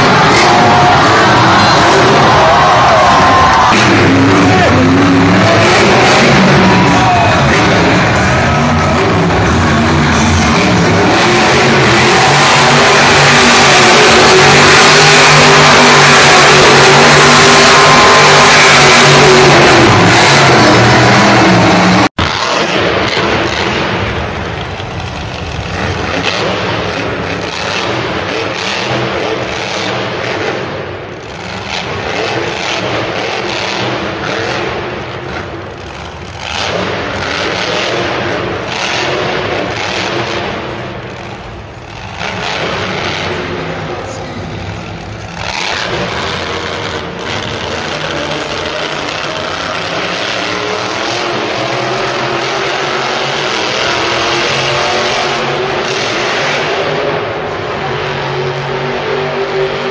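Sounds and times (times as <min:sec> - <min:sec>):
monster truck engines revving: 0:00.0 - 0:59.9.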